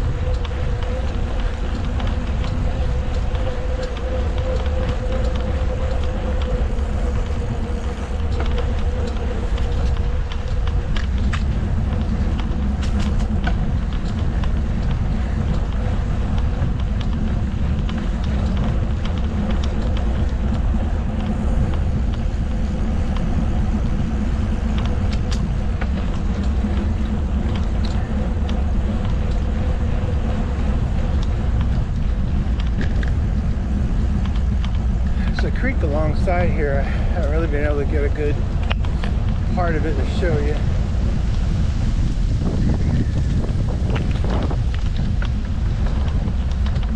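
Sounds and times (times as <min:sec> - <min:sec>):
bicycle tyres rolling: 0:00.0 - 0:46.9
small clicks and rattles: 0:00.0 - 0:46.9
wind on microphone: 0:00.0 - 0:46.9.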